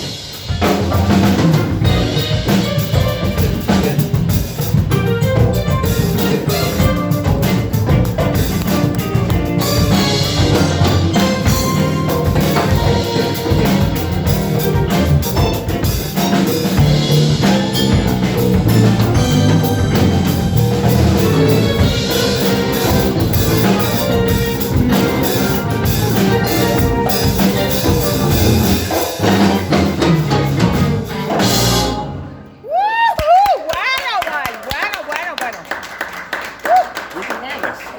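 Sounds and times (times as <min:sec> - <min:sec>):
live funk band playing: 0:00.0 - 0:32.6.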